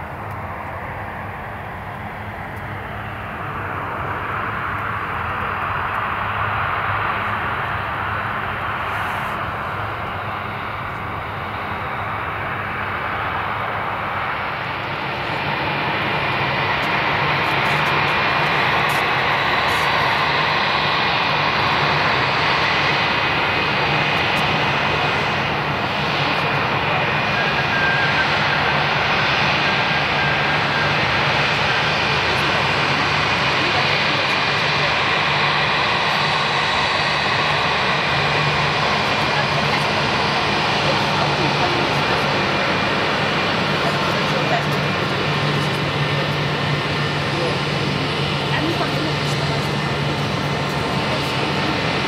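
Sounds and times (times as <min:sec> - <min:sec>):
jet engines taxiing: 0:00.0 - 0:52.0.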